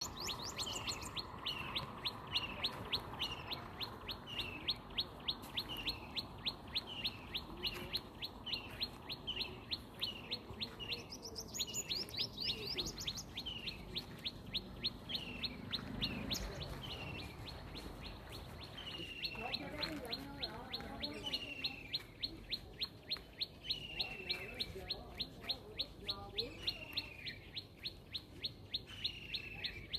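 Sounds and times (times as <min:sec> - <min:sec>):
small bird chirping: 0:00.0 - 0:29.9.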